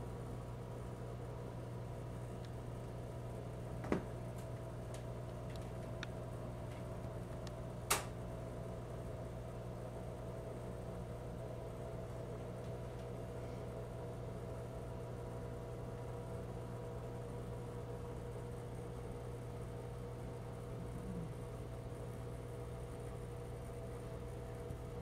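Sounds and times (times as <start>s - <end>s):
aquarium filter humming: 0.0s - 25.0s.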